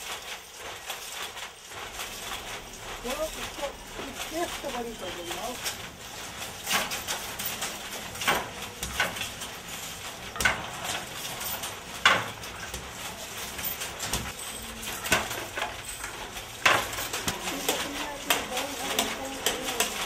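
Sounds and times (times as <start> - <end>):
wooden handloom clacking: 0.0 - 20.0.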